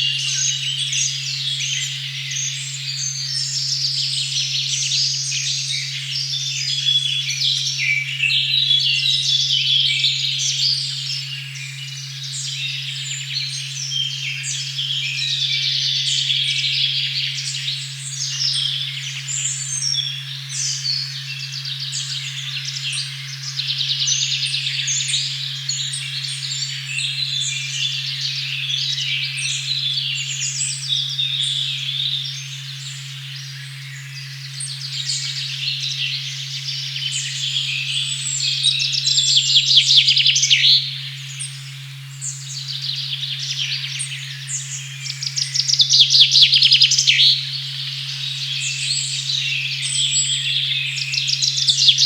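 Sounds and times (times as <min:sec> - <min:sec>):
birdsong chirps and trills: 0:00.0 - 0:52.0
pure tone hum: 0:00.0 - 0:52.0.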